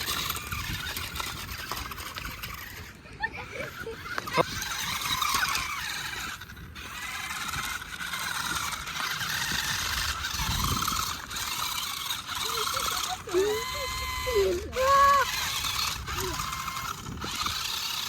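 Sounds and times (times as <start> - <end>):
toy electric motor whining: 0.0 - 18.0.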